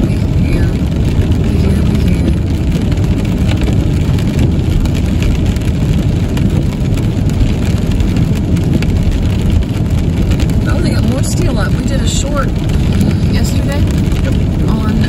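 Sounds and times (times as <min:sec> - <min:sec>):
car road and engine rumble: 0:00.0 - 0:15.0
rain ticking on windshield: 0:00.0 - 0:15.0.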